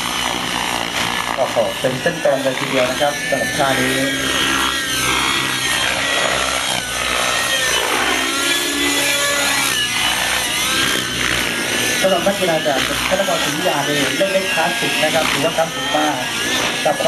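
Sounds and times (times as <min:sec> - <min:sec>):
model helicopter motor whine: 0:00.0 - 0:17.0.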